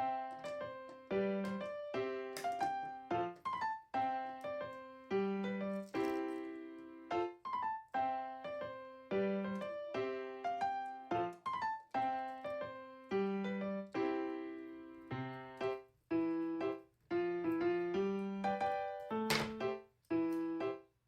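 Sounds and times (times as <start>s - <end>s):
light piano melody: 0.0s - 20.9s.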